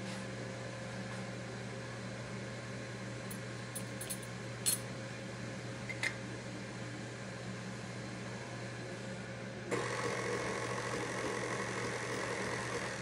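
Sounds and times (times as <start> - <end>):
heating unit humming: 0.0 - 13.0.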